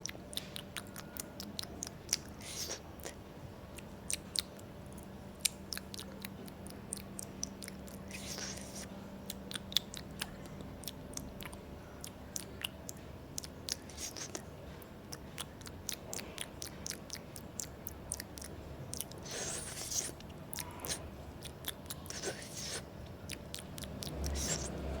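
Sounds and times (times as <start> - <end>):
faint steady hum: 0.0 - 25.0
wet chewing: 0.0 - 25.0.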